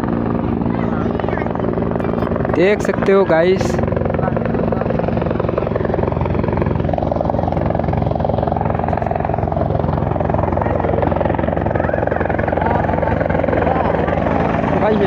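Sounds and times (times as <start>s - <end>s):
helicopter low drone: 0.0s - 15.0s
helicopter rotor chopping: 0.0s - 15.0s.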